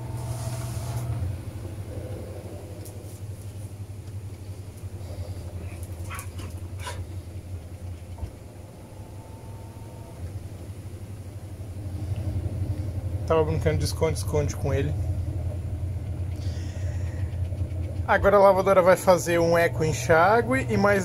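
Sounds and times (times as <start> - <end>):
washing machine spinning hum: 0.0 - 21.0.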